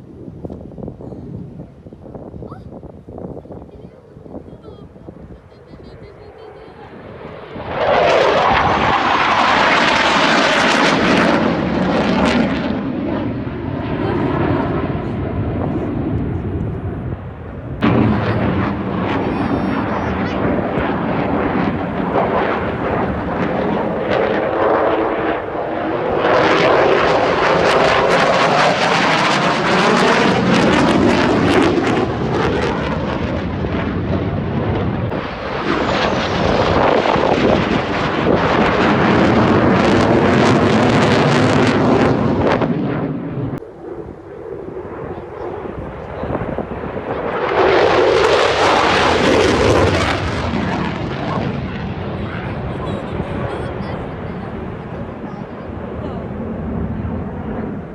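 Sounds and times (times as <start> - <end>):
fighter jets flying past: 0.0 - 57.9.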